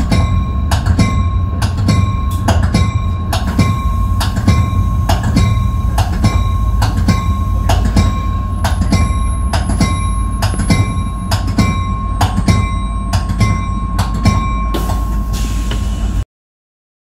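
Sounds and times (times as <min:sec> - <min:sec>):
steady high whine: 0:00.0 - 0:16.2
train low rumble: 0:00.0 - 0:16.2.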